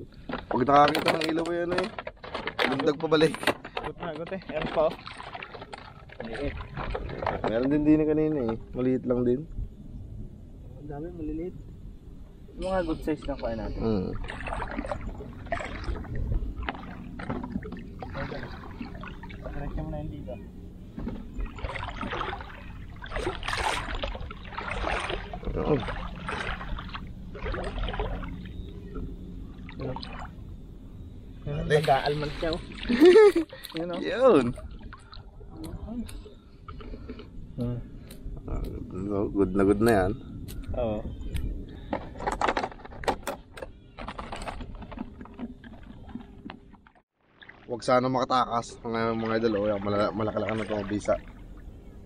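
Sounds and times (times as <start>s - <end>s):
water splashing and sloshing: 0.0s - 9.0s, 12.4s - 52.0s
low steady hum: 0.0s - 52.0s.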